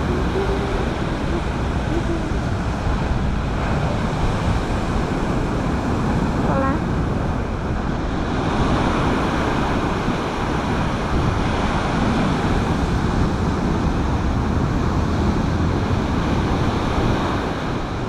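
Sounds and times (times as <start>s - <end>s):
sea surf breaking: 0.0s - 18.0s
wind on microphone: 0.0s - 18.0s.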